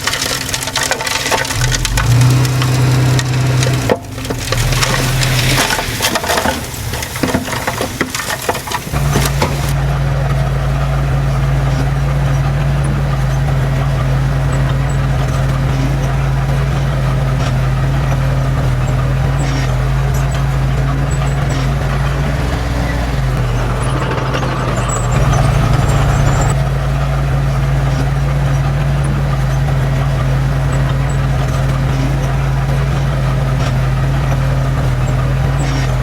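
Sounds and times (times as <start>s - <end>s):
diesel engine droning: 0.0s - 36.0s
soil and debris crunching: 0.0s - 36.0s.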